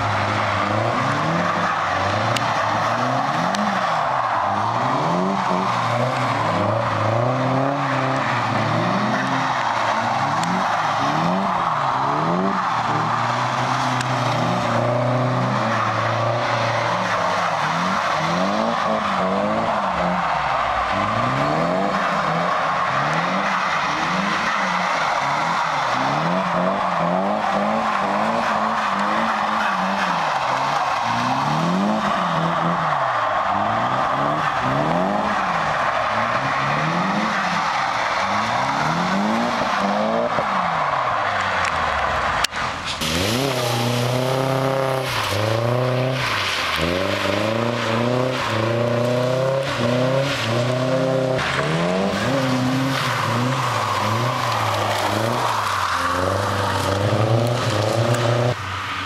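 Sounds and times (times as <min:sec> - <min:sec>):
car engine revving: 0:00.0 - 0:59.0
tyres skidding through water: 0:00.0 - 0:59.0.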